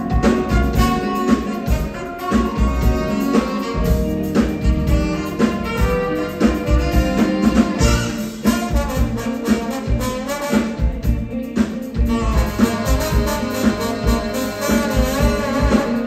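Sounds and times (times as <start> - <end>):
drum kit beat: 0.0 - 16.0
horns playing jazz: 0.0 - 16.0.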